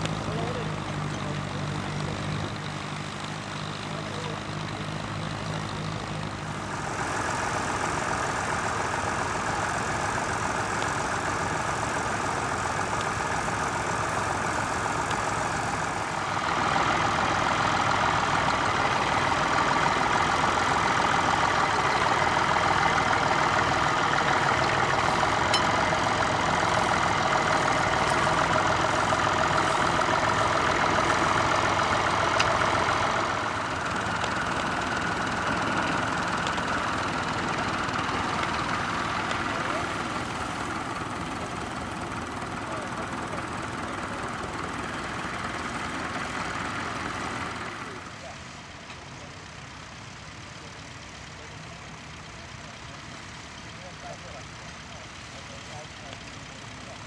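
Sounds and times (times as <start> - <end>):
tractor engines running under load: 0.0 - 57.0.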